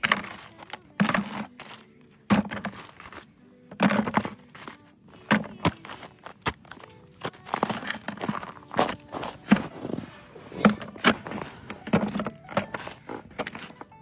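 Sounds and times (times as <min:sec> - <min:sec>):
thuds on frozen snow and coal: 0:00.0 - 0:13.9.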